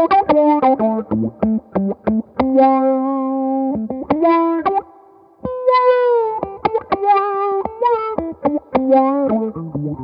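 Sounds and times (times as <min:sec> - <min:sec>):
electric guitar with envelope filter: 0:00.0 - 0:10.0.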